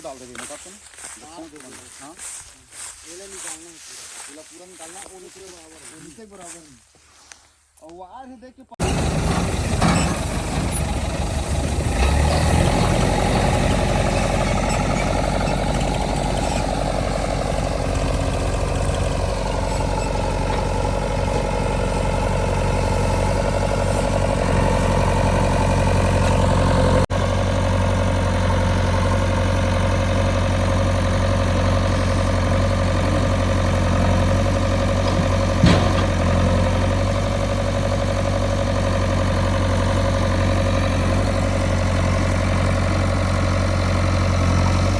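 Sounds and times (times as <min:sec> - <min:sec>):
diesel engine running under work: 0:08.8 - 0:44.9.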